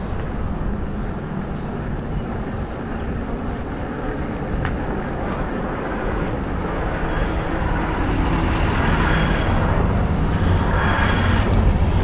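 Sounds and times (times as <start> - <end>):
tyre and road noise: 0.0 - 12.0
wind rushing over microphone: 0.0 - 12.0.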